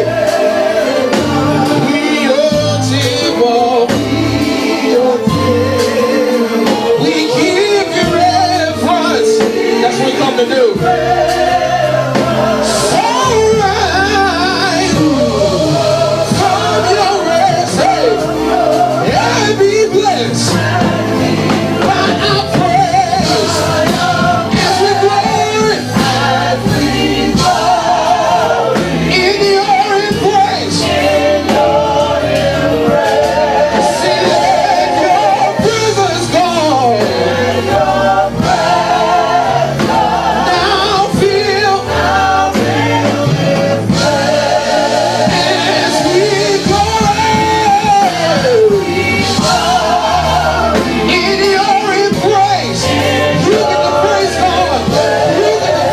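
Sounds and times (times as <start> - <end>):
gospel singing with vibrato: 0.0 - 55.9
instrumental accompaniment with beat: 0.0 - 55.9.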